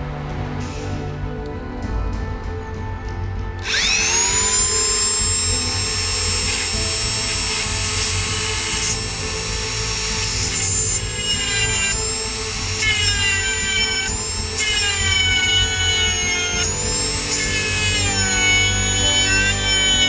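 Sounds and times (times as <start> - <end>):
rotary tool whining: 3.2 - 20.0.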